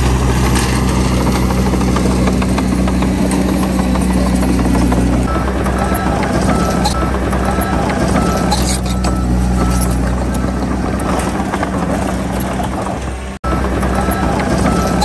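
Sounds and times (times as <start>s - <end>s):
bulldozer diesel engine: 0.0s - 15.0s
tracks clinking and squeaking: 0.0s - 15.0s.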